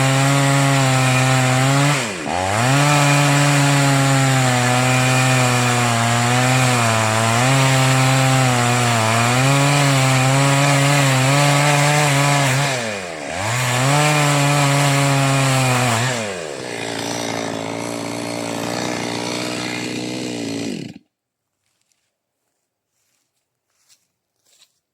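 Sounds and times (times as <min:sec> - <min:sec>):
chainsaw cutting wood: 0:00.0 - 0:21.2.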